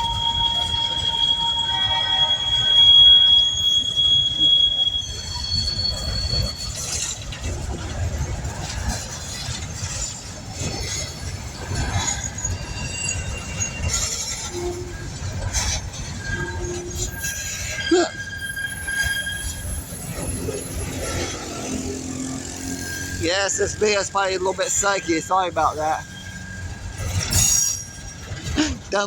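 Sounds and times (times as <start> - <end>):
metallic wheel squeals: 0.0 - 29.0
train cars rolling past: 0.0 - 29.0.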